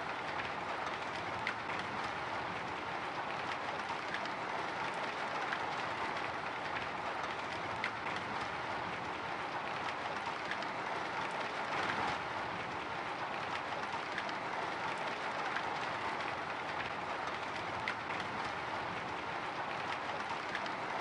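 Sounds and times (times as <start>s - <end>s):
raindrops ticking on glass: 0.0s - 21.0s.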